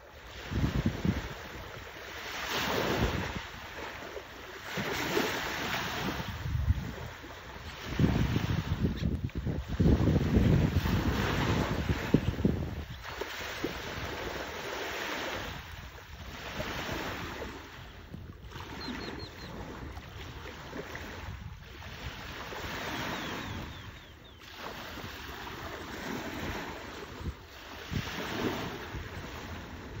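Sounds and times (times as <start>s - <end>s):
small waves washing ashore: 0.0s - 30.0s
wind rumbling on microphone: 0.0s - 30.0s.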